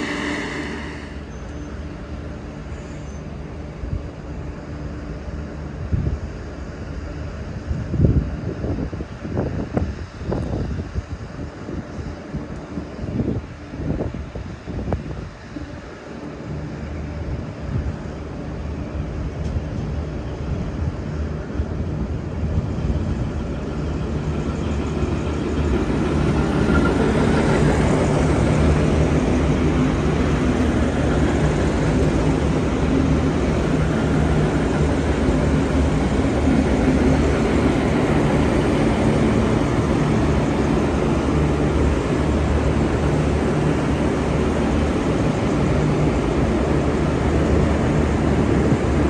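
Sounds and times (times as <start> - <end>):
diesel train engine drone: 0.0 - 49.0.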